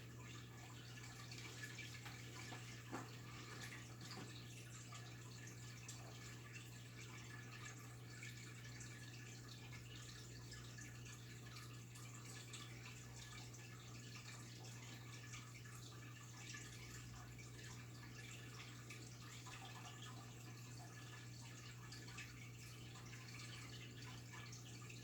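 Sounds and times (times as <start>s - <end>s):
water drips in fish tank: 0.0s - 25.0s.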